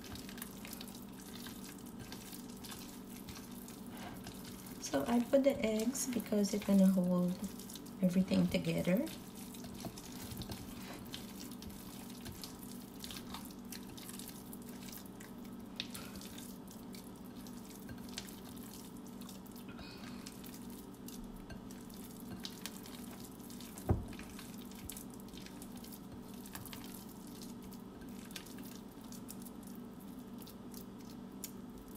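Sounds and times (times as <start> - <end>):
hands squishing wet meat mixture: 0.0 - 31.9
steady low hum: 0.0 - 31.9.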